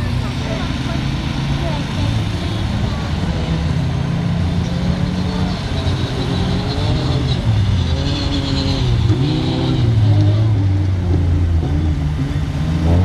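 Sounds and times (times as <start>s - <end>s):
race car engines revving: 0.0s - 13.0s.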